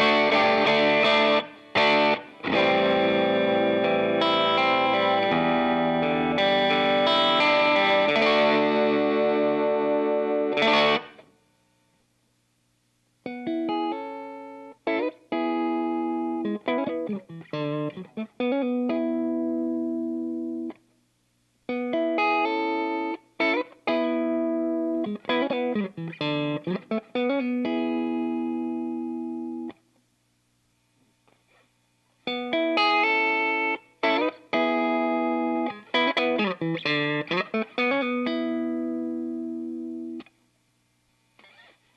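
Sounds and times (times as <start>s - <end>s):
overdriven electric guitar chords: 0.0s - 11.3s, 13.2s - 20.8s, 21.7s - 29.8s, 32.3s - 40.4s.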